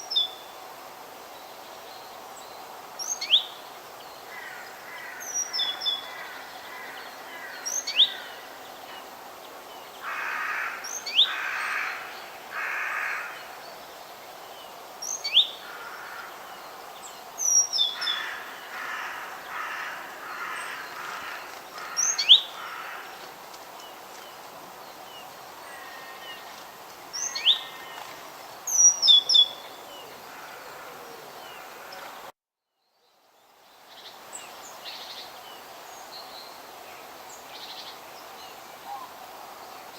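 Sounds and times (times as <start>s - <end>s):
outdoor background hiss: 0.0s - 39.9s.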